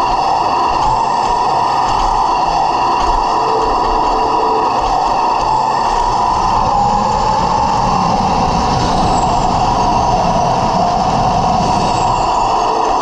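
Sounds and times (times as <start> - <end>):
toy tank electric motor whine: 0.0 - 11.1.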